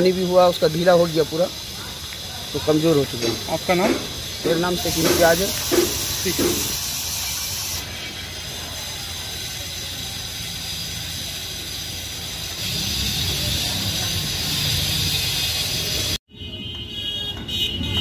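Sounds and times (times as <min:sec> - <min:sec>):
hiss: 0:00.0 - 0:16.2
low rumble of passing traffic: 0:00.0 - 0:16.2.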